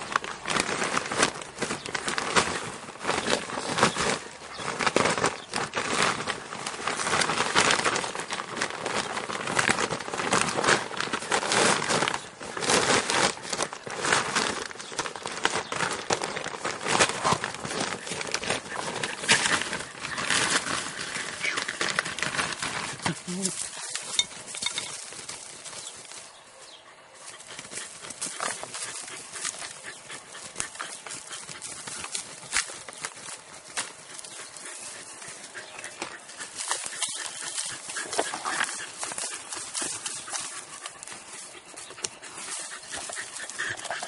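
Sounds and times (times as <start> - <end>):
plastic sheeting crinkling: 0.0 - 26.6, 27.2 - 44.0.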